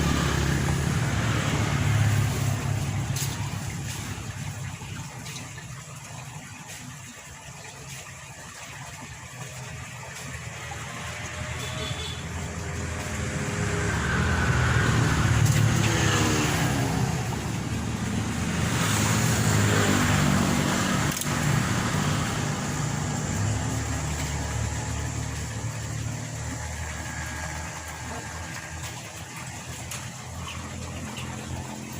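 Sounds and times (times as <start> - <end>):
vehicles passing by: 0.0 - 31.9.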